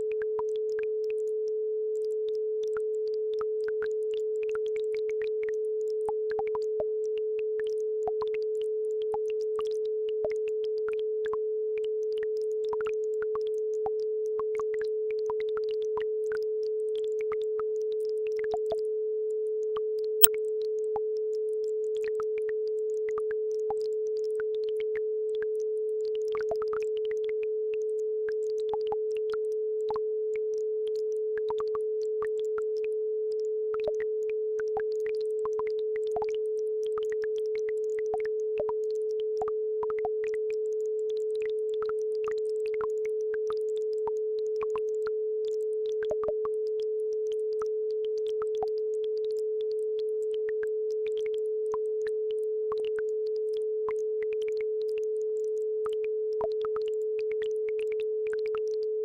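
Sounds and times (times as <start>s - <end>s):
steady sine tone: 0.0s - 59.0s.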